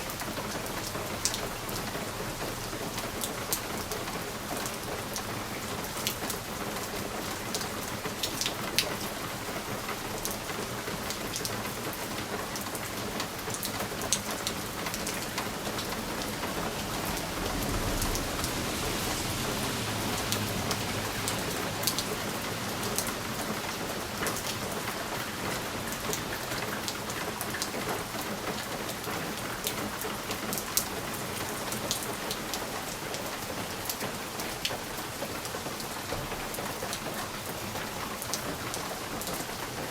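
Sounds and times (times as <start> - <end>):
rain pattering on window glass: 0.0 - 39.9.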